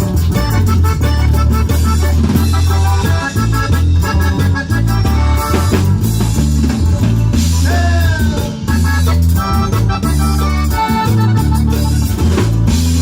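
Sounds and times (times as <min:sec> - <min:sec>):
cumbia band playing: 0:00.0 - 0:13.0
drum kit: 0:00.0 - 0:13.0
keyboard: 0:00.0 - 0:13.0
steady bass line: 0:00.0 - 0:13.0.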